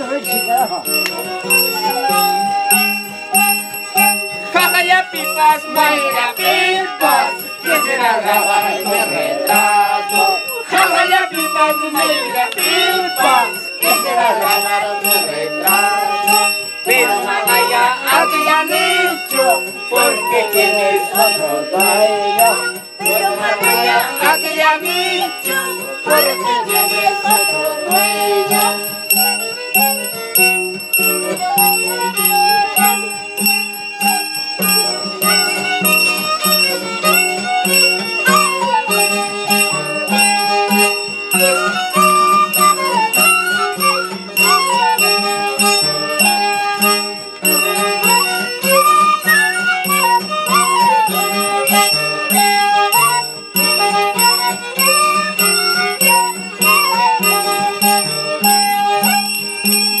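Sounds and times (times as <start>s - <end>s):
hand bell ringing: 0.0s - 60.0s
violin: 0.0s - 60.0s
people singing: 1.1s - 58.0s.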